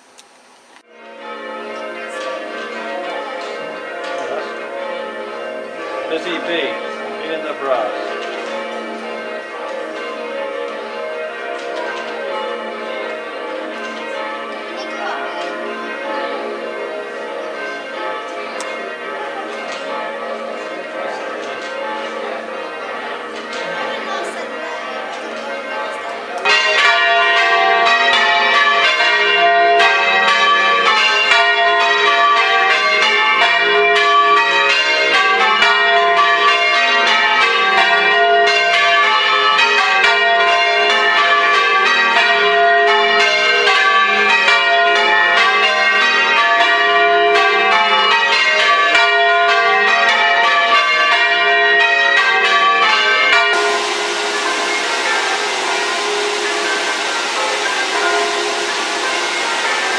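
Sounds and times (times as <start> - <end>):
church bells ringing: 0.8 - 59.9.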